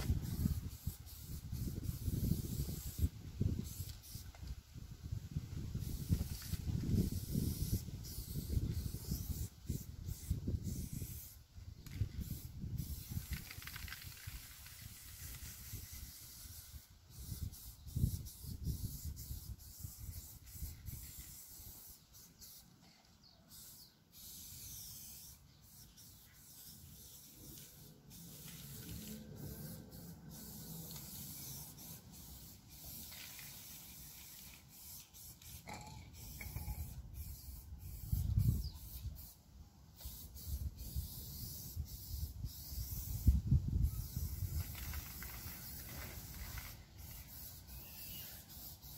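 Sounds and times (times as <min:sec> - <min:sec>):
spray paint cans hissing: 0:00.0 - 0:04.6, 0:05.5 - 0:48.9.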